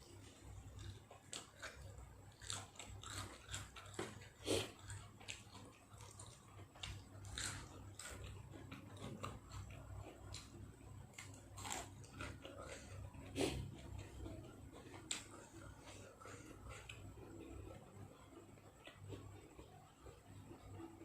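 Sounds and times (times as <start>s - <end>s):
person chewing crunchy food: 0.0s - 20.8s.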